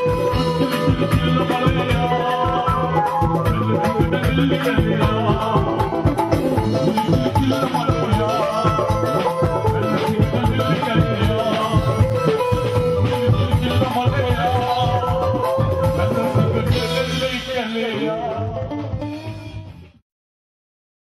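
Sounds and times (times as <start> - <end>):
live band playing upbeat music: 0.0 - 20.0.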